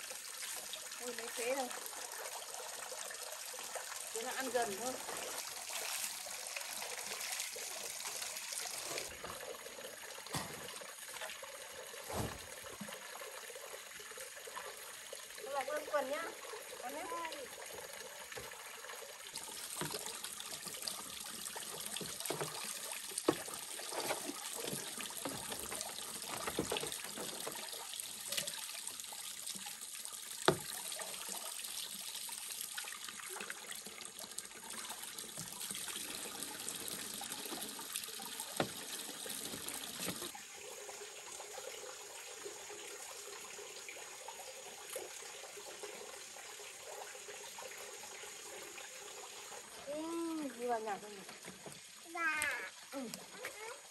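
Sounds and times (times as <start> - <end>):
water trickling: 0.0 - 53.9.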